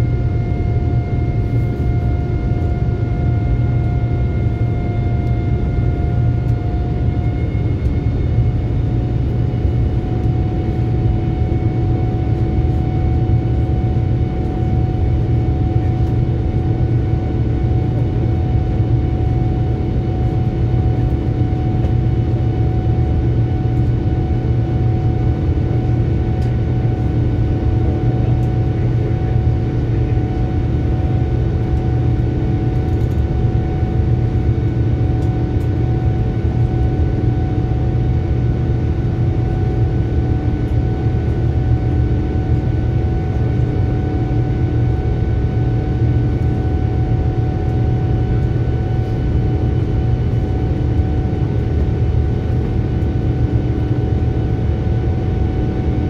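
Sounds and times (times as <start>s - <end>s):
aircraft engine and airflow rumble: 0.0s - 56.0s
steady engine whine: 0.0s - 56.0s.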